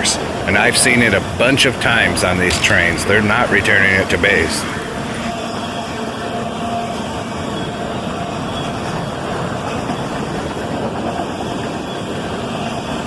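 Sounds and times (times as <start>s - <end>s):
freight cars rolling on rails: 0.0s - 13.0s.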